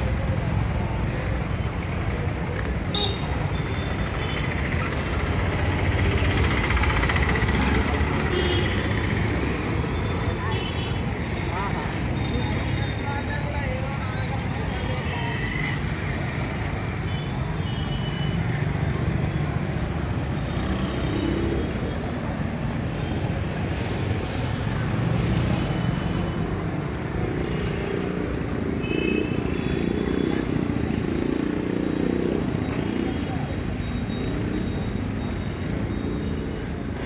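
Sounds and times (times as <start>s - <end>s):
street traffic engines rumbling: 0.0s - 37.0s.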